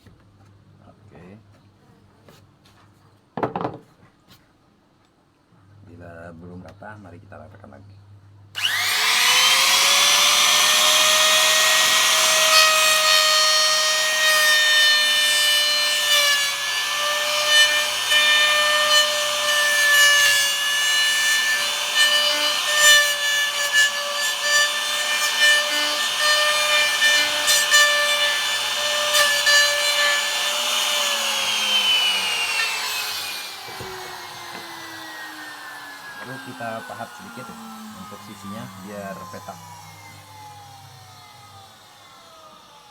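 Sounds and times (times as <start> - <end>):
router cutting wood: 8.6 - 42.9
router winding down: 8.6 - 42.9.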